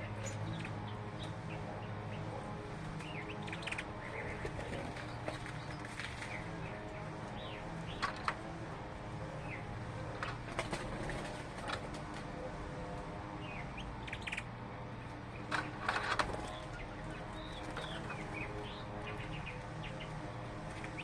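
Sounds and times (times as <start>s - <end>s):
small birds chirping: 0.0s - 8.4s, 9.2s - 11.6s, 13.2s - 21.0s
steady low hum: 0.0s - 21.0s.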